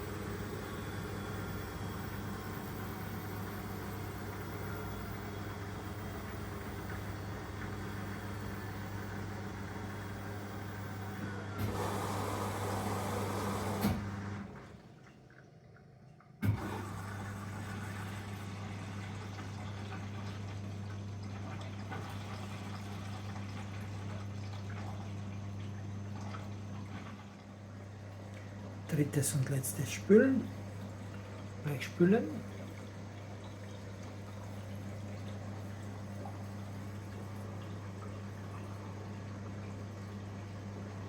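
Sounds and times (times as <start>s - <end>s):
drain pump humming: 0.0s - 41.0s.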